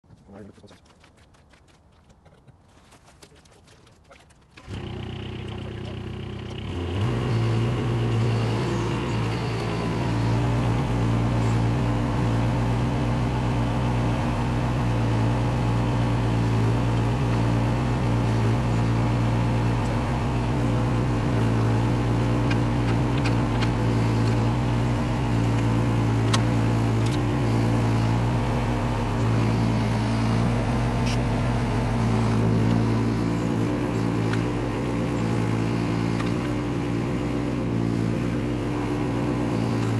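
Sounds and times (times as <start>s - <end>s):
diesel engine running: 4.5s - 39.9s.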